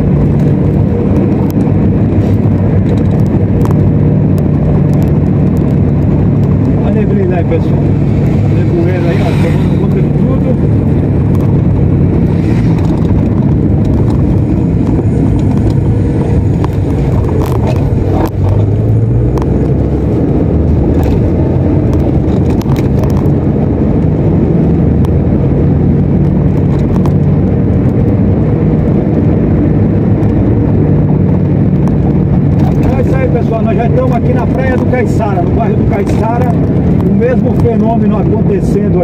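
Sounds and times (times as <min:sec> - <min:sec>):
car engine drone: 0:00.0 - 0:39.0
road noise: 0:00.0 - 0:39.0.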